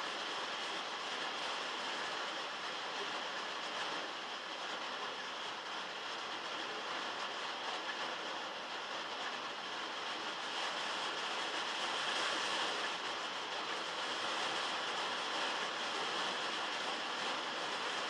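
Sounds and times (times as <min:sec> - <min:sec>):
heavy rain on a metal roof: 0:00.0 - 0:18.0.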